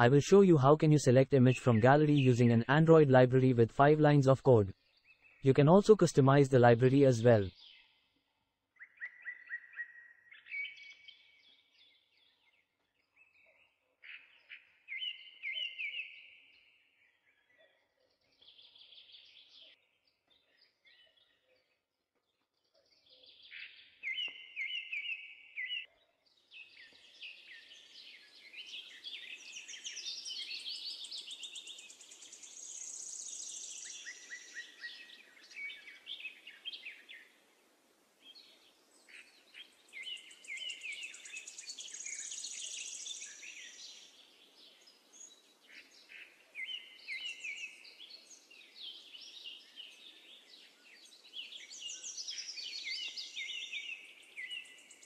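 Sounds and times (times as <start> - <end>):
birds chirping and singing: 0.0 - 8.1, 8.8 - 21.5, 22.6 - 37.3, 38.2 - 55.0.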